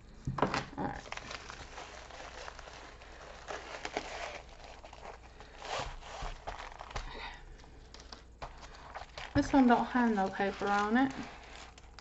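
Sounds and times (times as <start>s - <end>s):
padded envelope ripping: 0.6s - 12.0s.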